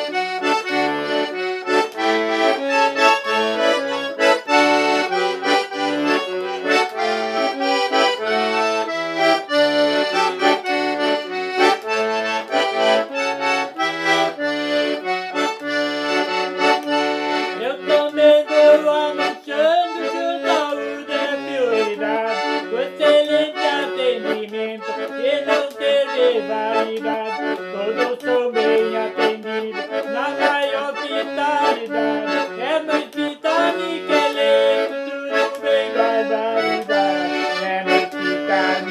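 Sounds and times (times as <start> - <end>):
accordion playing a lively tune: 0.0 - 38.9.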